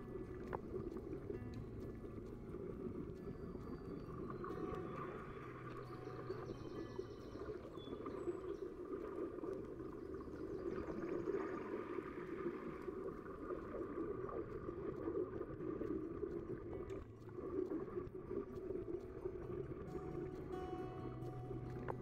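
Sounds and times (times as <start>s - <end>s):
muffled underwater rushing water: 0.0s - 22.0s.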